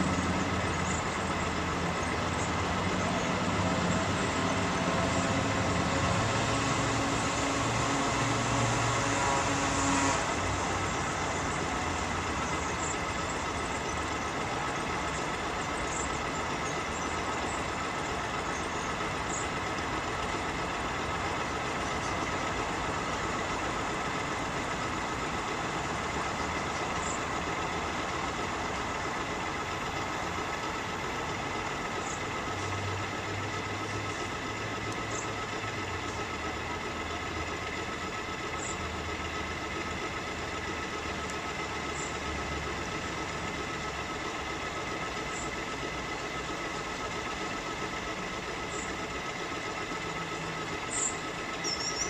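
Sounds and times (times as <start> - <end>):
boat motor humming with whine: 0.0 - 52.0.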